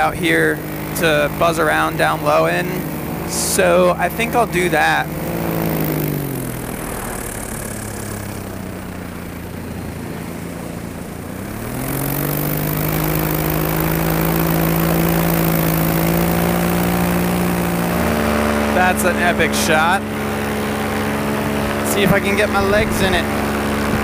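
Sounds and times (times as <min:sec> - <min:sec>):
paramotor engine droning: 0:00.0 - 0:24.0
wind and propeller rush: 0:00.0 - 0:24.0.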